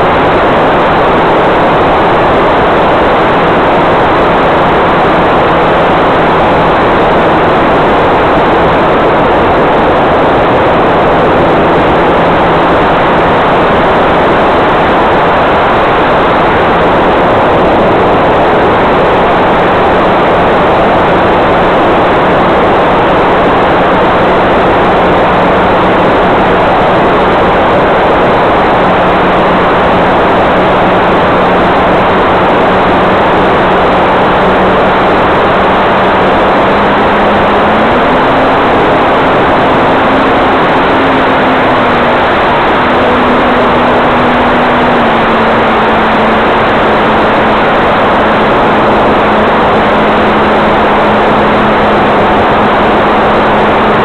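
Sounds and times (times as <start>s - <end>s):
model plane motor drone: 0.0s - 54.0s
wind rush on microphone: 0.0s - 54.0s.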